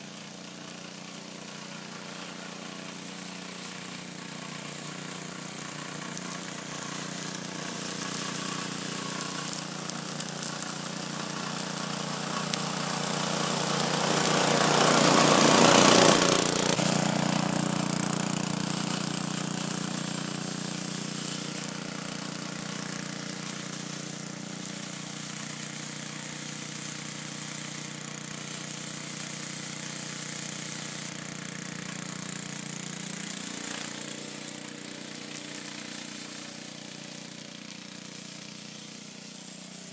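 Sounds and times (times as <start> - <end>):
lawn mower running: 0.0 - 39.9.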